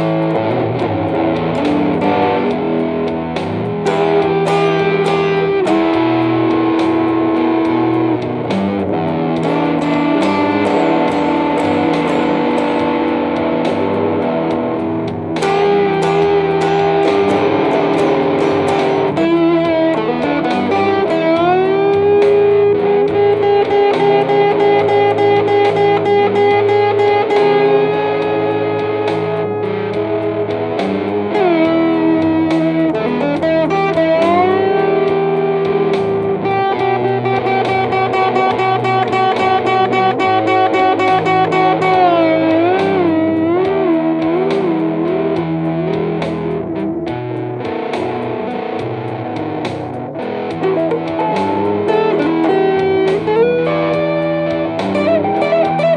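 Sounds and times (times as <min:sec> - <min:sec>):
electric blues guitar: 0:00.0 - 0:55.9.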